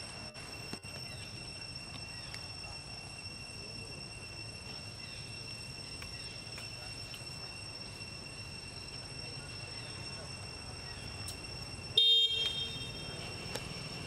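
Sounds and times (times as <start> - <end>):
insects droning: 0.0 - 14.0
low outdoor rumble: 0.0 - 14.0.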